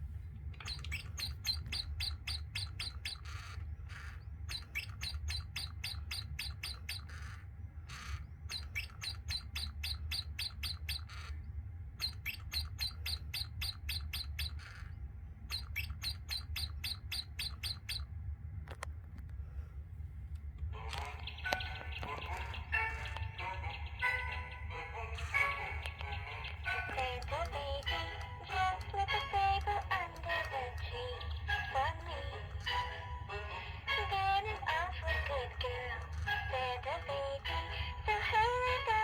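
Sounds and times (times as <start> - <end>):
steady low hum: 0.0 - 39.0
toy bird chirping: 0.6 - 18.2, 20.8 - 39.0.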